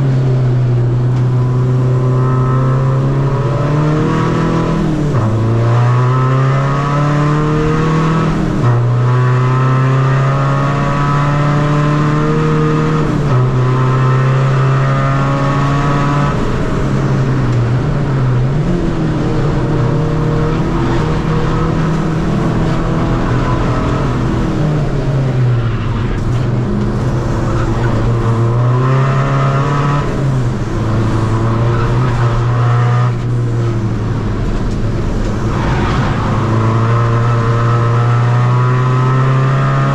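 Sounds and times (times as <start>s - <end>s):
diesel car engine revving: 0.0s - 39.9s.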